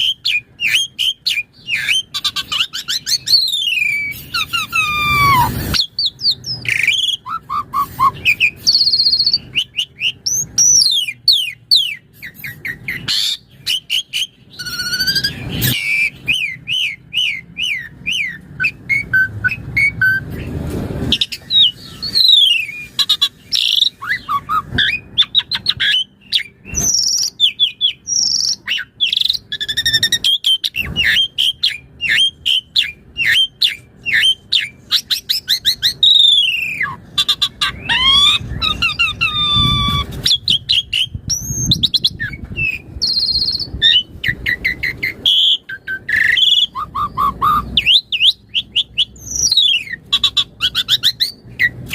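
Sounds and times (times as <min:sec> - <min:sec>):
harsh rasping bird notes: 0:00.0 - 0:51.9
starling singing: 0:00.0 - 0:51.9.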